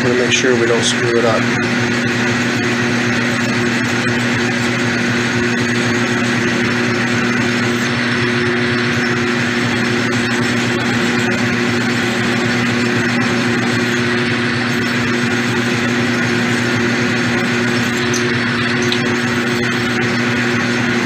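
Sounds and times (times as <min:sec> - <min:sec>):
drill cutting hiss: 0:00.0 - 0:21.0
lathe humming: 0:00.0 - 0:21.0.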